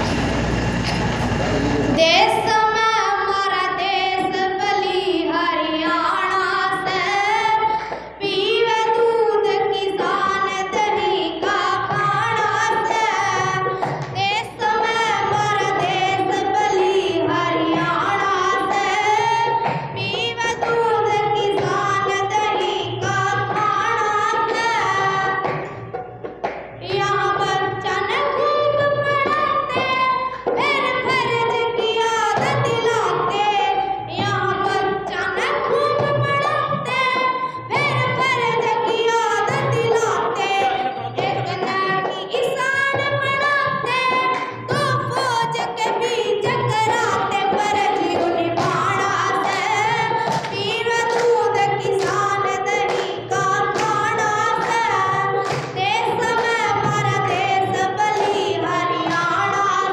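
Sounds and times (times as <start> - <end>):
girl singing into a microphone: 2.0 - 25.9, 26.8 - 59.9.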